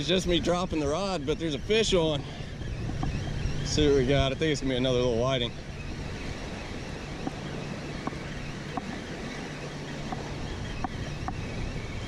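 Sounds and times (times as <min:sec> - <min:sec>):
light surf: 0:00.0 - 0:12.0
wind on microphone: 0:00.0 - 0:12.0.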